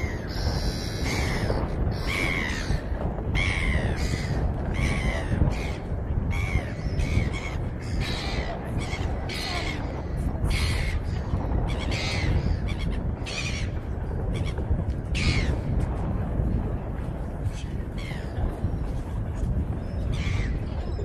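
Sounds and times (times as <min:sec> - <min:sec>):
low rumble of wind: 0:00.0 - 0:21.0.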